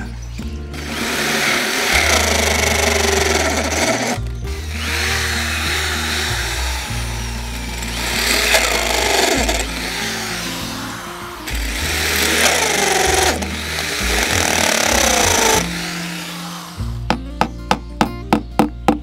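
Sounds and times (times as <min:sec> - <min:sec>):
background music: 0:00.0 - 0:19.0
electric drill boring into bamboo: 0:00.7 - 0:17.1.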